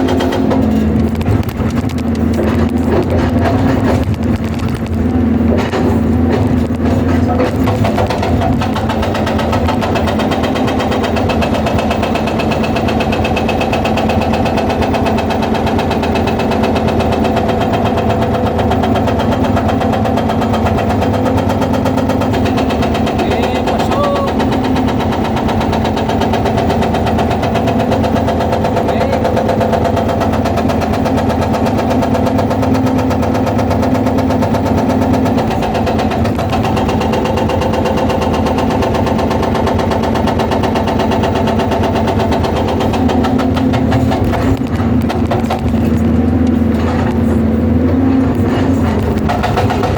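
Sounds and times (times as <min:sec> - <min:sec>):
excavator engine running: 0:00.0 - 0:49.9
hydraulic breaker hammering stone: 0:00.0 - 0:49.9.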